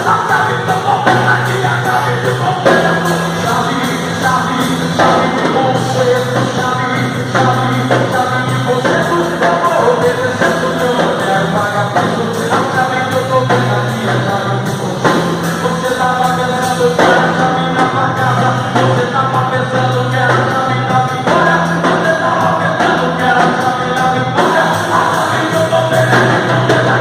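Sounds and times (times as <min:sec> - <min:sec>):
gospel song with band: 0:00.0 - 0:27.0
long held bass notes: 0:00.0 - 0:27.0.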